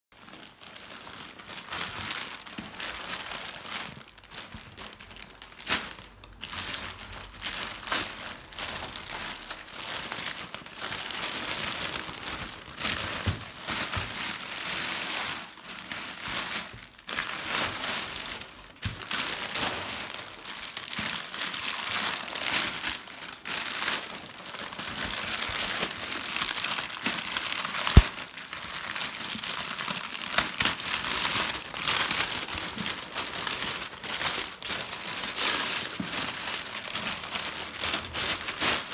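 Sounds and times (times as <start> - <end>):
plastic packaging crinkling: 0.2 - 38.9.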